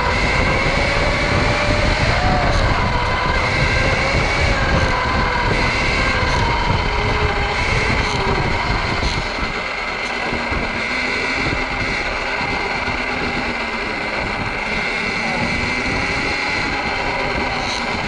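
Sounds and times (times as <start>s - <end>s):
electric motor whine: 0.0s - 18.0s
wind rumble on microphone: 0.0s - 18.0s.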